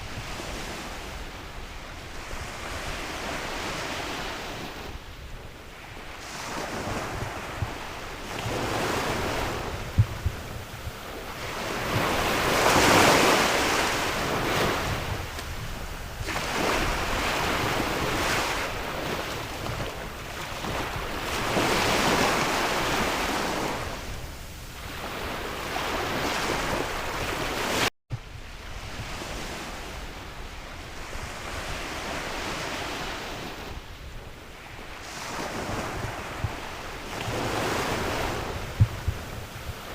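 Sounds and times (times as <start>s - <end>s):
sea waves washing onto shore: 0.0s - 39.9s
wind buffeting microphone: 0.0s - 39.9s.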